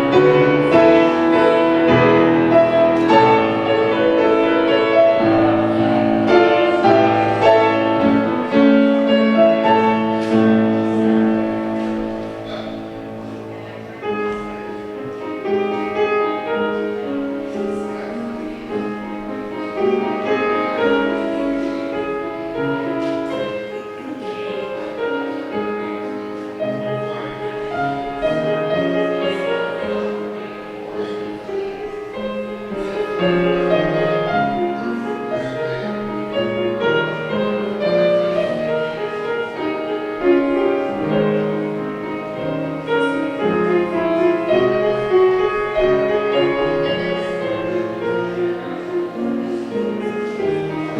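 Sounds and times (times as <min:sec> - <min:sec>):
piano-led instrumental music: 0:00.0 - 0:50.9.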